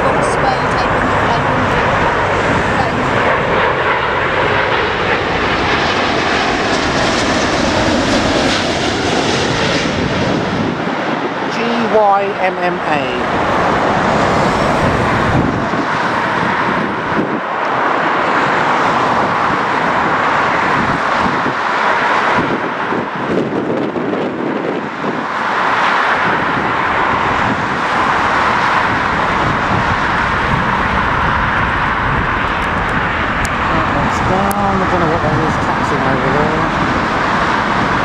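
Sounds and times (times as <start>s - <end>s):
jet engine roar: 0.0s - 38.0s
wind buffeting microphone: 0.0s - 38.0s.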